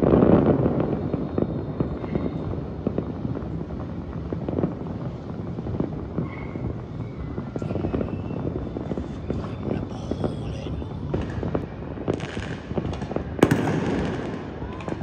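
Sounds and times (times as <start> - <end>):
distant fireworks rumble: 0.0 - 15.0
fireworks pops and booms: 0.0 - 15.0.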